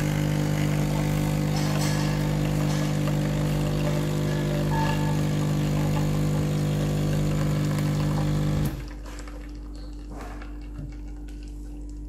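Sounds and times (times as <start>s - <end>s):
coffee machine pump humming: 0.0s - 12.0s.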